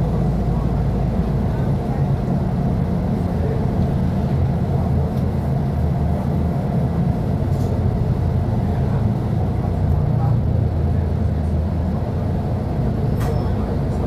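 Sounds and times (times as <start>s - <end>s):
bus diesel engine rumbling: 0.0s - 14.0s.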